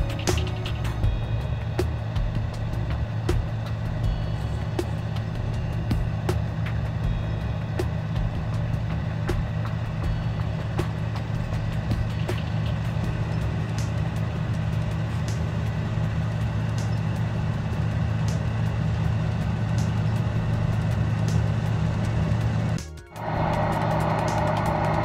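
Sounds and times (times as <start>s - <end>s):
farm engines droning: 0.0s - 25.0s.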